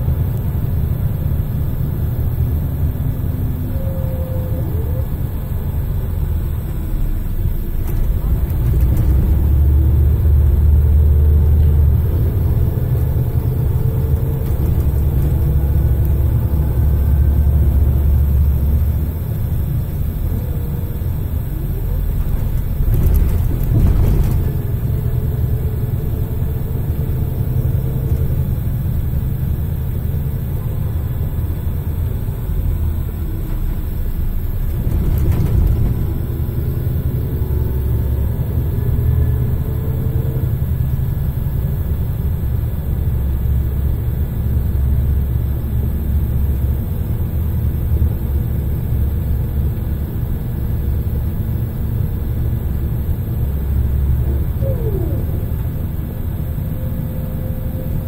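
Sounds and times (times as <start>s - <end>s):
bus engine drone: 0.0s - 58.0s
gearbox whine: 0.0s - 58.0s.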